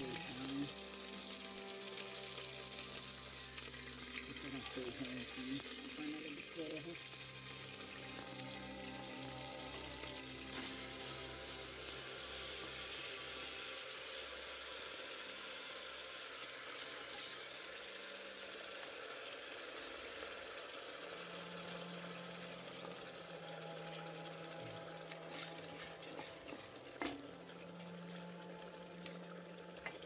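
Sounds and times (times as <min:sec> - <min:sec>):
beans sizzling in a pot: 0:00.0 - 0:30.0.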